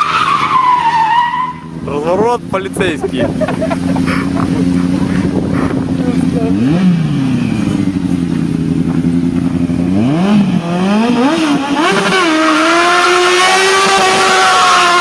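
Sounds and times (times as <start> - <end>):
motorcycle engine revving: 1.5 - 15.0.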